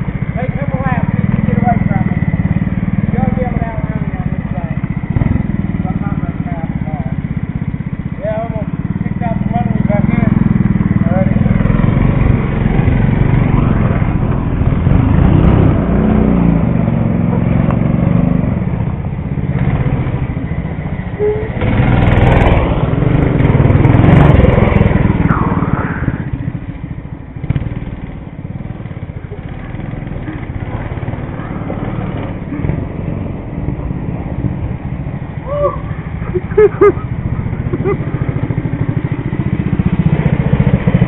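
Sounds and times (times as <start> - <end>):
mini bike engine revving: 0.0 - 41.0.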